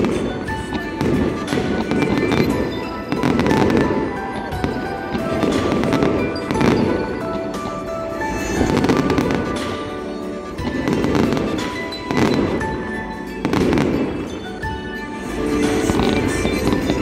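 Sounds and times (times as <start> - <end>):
fireworks bursting: 0.0 - 17.0
music playing: 0.0 - 17.0.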